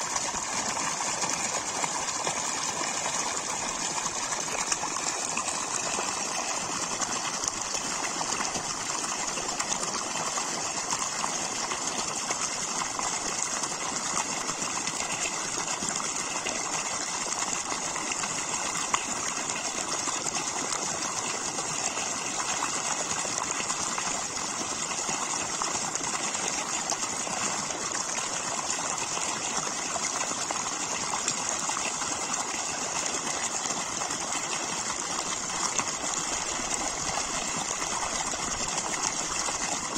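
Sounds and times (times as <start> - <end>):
water gushing and foaming: 0.0 - 39.9.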